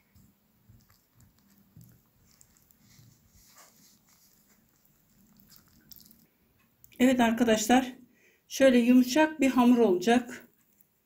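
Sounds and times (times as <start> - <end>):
soft rustling of hand mixing dough: 0.0 - 8.1, 9.0 - 11.0.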